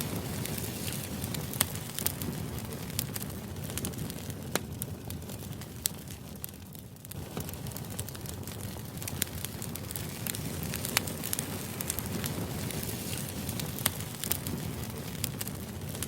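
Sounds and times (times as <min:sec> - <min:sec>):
sharp crackles and clicks: 0:00.0 - 0:16.0.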